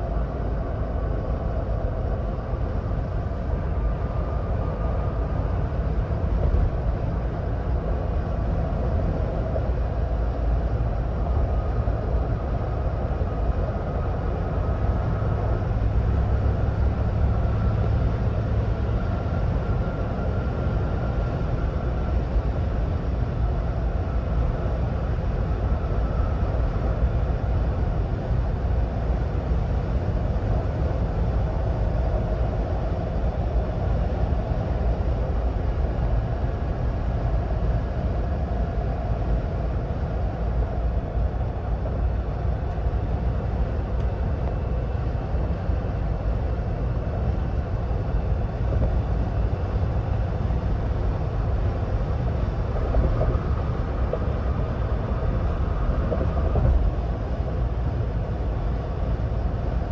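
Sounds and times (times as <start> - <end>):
car cruising road rumble: 2.1 - 59.9.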